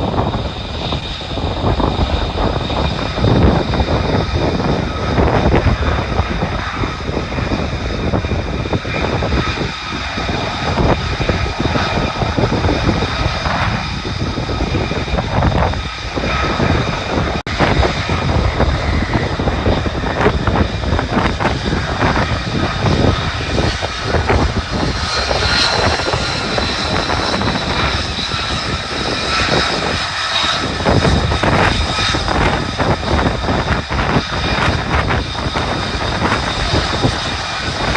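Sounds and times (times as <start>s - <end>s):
jet engine afterburner roar: 0.0s - 37.9s.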